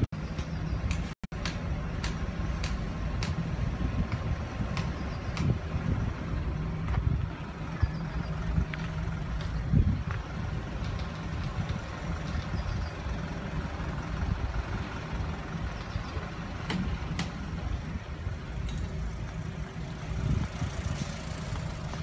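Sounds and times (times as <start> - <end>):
diesel machinery engines rumbling: 0.0 - 22.0.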